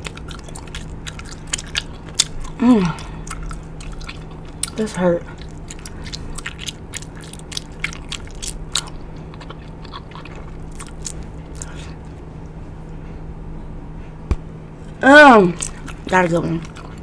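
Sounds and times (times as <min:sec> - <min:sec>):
wet gum chewing and smacking: 0:00.0 - 0:12.6, 0:14.3 - 0:17.0.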